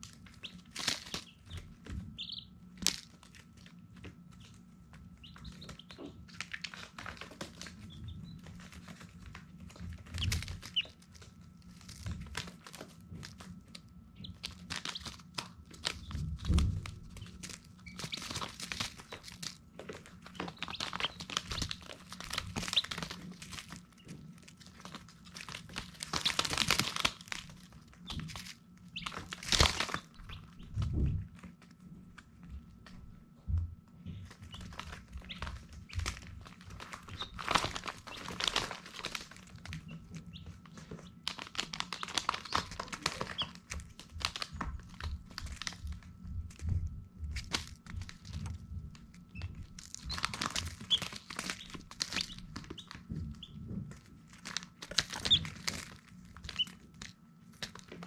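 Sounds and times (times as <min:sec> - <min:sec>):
chicks peeping: 0:00.0 - 0:31.4, 0:34.0 - 0:58.0
chicks rustling and scratching: 0:00.0 - 0:58.0
faint steady hum: 0:00.0 - 0:58.0.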